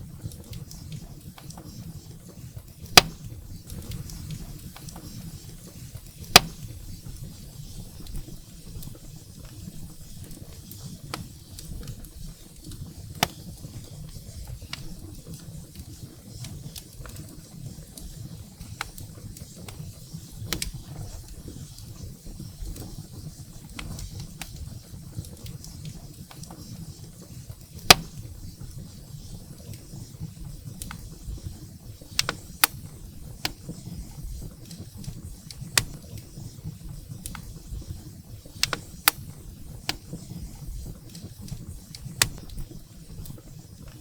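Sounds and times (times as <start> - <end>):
wood fire crackling in fireplace: 0.0 - 44.0.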